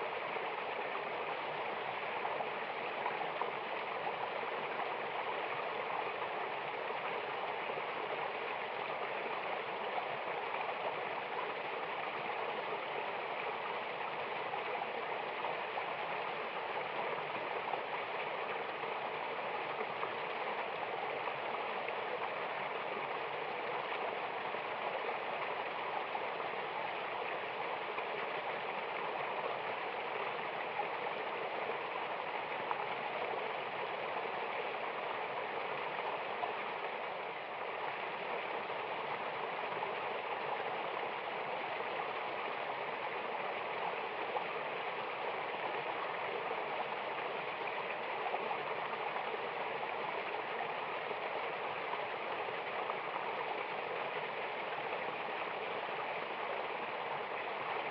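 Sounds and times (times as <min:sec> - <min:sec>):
waterfall rushing water: 0:00.0 - 0:57.9.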